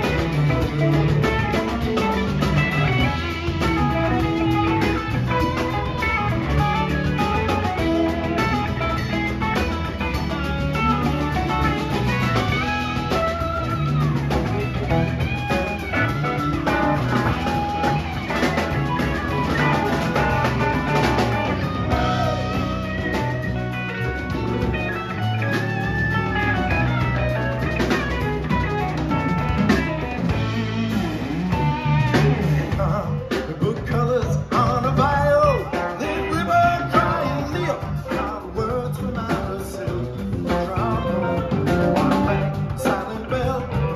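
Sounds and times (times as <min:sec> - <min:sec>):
harmonica lead lines: 0:00.0 - 0:38.9
bass guitar: 0:00.0 - 0:43.9
drum kit: 0:00.0 - 0:43.9
electric guitars: 0:00.0 - 0:43.9.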